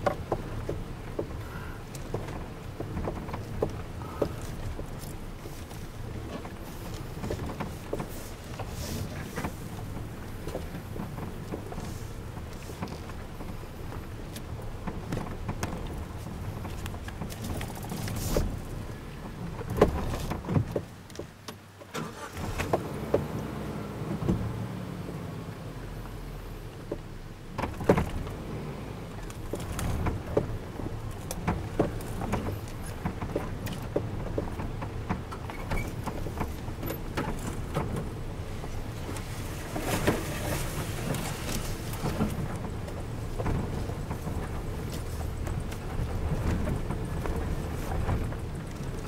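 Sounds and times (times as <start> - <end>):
vehicle body knocks and rattles: 0.0 - 21.8, 26.8 - 28.5, 29.2 - 49.0
off-road vehicle engine at low revs: 0.0 - 49.0.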